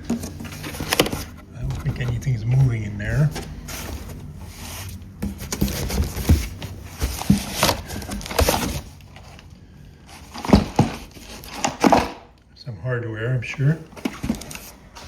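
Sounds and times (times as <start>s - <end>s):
plastic wrap and cardboard rustling: 0.0s - 9.5s, 10.1s - 12.3s, 14.0s - 15.0s.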